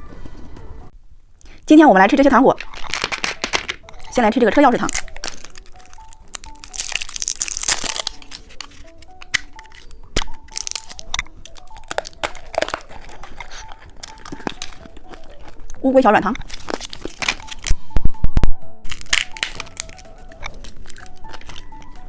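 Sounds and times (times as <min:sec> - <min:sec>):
soft background music: 0:00.0 - 0:01.0, 0:01.7 - 0:22.0
candy crunching when bitten: 0:02.6 - 0:17.8, 0:18.9 - 0:22.0
plastic wrapper crinkling and tearing: 0:02.6 - 0:17.8, 0:18.9 - 0:22.0.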